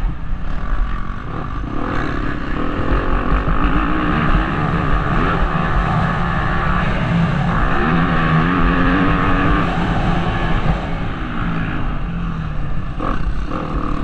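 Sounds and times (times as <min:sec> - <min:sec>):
wind rumbling on microphone: 0:00.0 - 0:14.0
motocross bike engine revving: 0:00.3 - 0:14.0.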